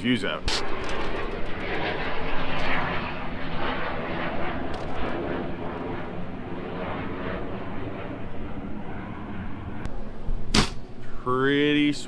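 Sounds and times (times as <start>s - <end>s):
engine drone: 0.4s - 11.9s.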